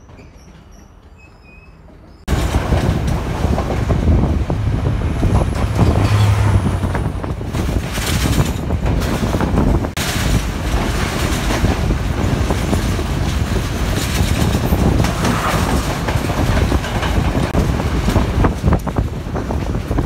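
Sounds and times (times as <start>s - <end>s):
train rumbling on rails: 0.0s - 20.0s
wheels clattering over track: 1.9s - 20.0s.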